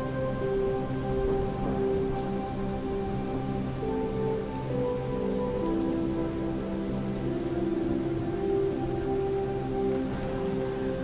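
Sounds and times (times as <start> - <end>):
soft music with held notes: 0.0 - 11.0
steady rainfall: 0.0 - 11.0.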